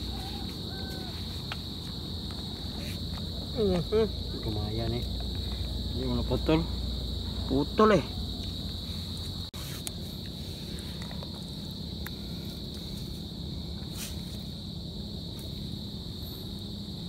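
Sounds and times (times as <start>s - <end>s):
insects trilling: 0.0s - 17.0s
low steady rumble: 0.0s - 17.0s.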